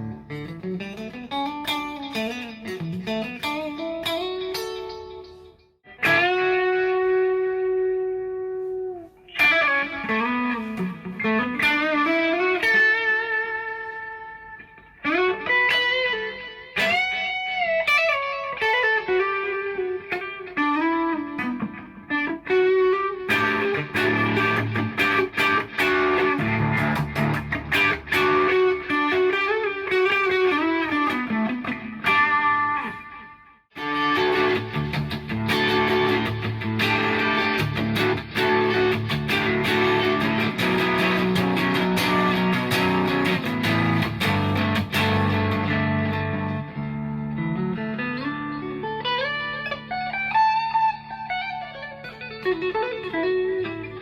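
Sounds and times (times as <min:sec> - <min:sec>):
electric guitar lead playing: 0:00.0 - 0:54.0.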